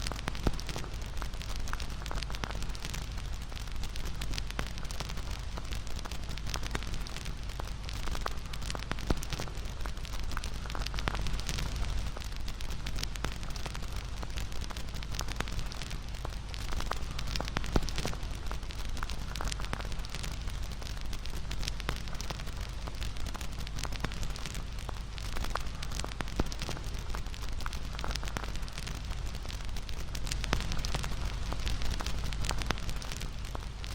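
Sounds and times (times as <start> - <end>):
bonfire crackling and popping: 0.0 - 33.9
flame rumbling: 0.0 - 33.9.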